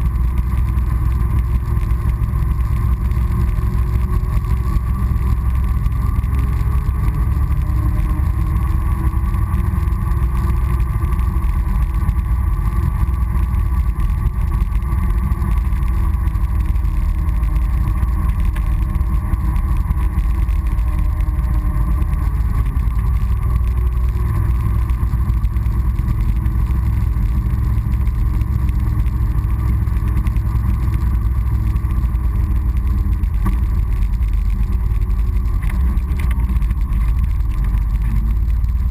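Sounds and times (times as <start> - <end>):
atv engine running: 0.0 - 38.9
wind rumble on microphone: 0.0 - 38.9.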